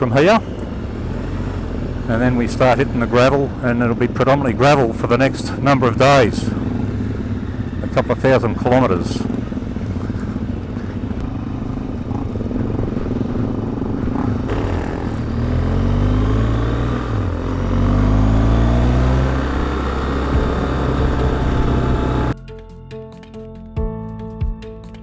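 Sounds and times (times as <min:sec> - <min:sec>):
motorcycle engines accelerating: 0:00.0 - 0:22.4.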